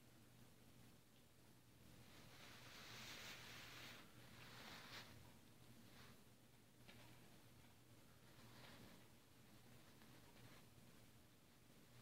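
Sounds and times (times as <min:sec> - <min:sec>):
steady recording hiss: 0:00.0 - 0:12.0.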